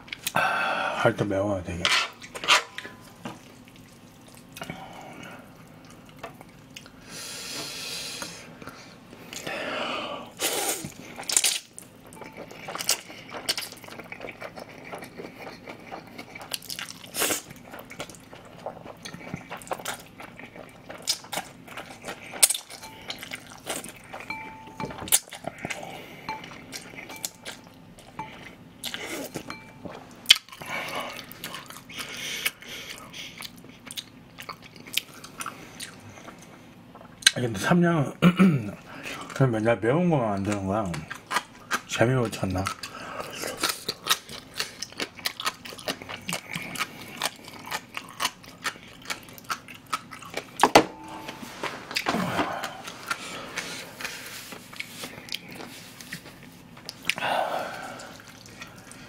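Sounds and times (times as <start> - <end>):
wet chewing with crunches: 3.2 - 7.0, 10.4 - 37.4, 40.4 - 50.6, 51.3 - 59.0.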